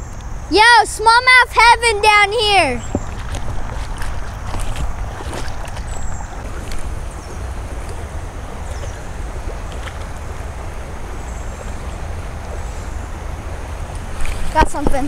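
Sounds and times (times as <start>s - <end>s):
wind buffeting microphone: 0.0s - 15.0s
light rain on creek: 2.8s - 15.0s.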